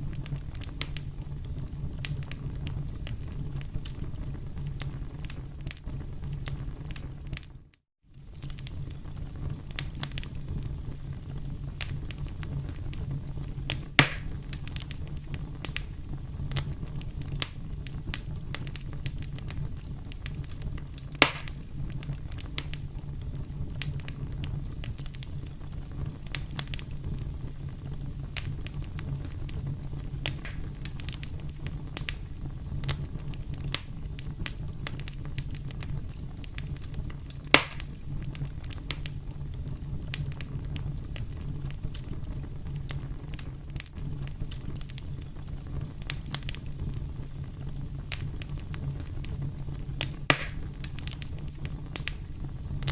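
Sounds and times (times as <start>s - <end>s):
campfire crackling: 0.0s - 52.9s
loud snaps of fire: 0.0s - 52.9s.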